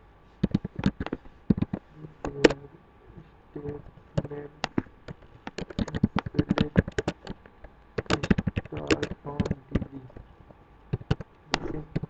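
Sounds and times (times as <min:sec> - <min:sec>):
keyboard key clicks: 0:00.4 - 0:02.6, 0:03.6 - 0:10.2, 0:10.9 - 0:12.0.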